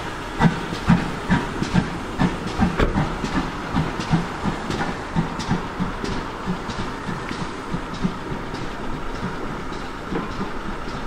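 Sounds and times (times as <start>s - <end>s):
steam engine exhaust chuffing: 0.0s - 11.0s
steam hissing: 0.0s - 11.0s.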